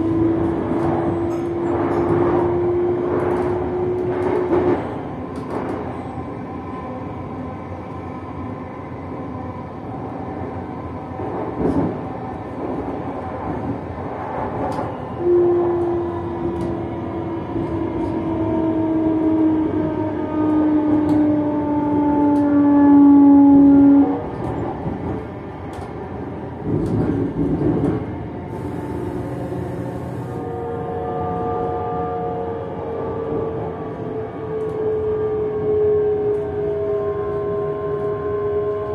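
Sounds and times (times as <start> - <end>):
rumble of running train: 0.0 - 38.9.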